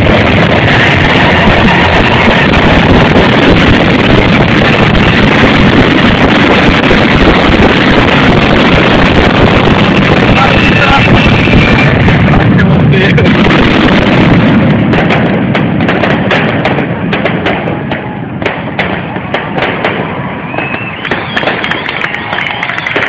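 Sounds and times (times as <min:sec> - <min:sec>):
fireworks shells bursting: 0:00.0 - 0:12.4, 0:13.2 - 0:23.0
fireworks crackling: 0:00.0 - 0:23.0.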